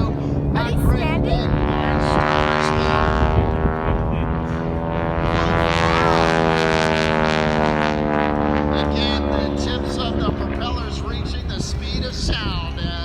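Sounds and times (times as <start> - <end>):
biplane engine and propeller flying past: 0.0 - 13.0.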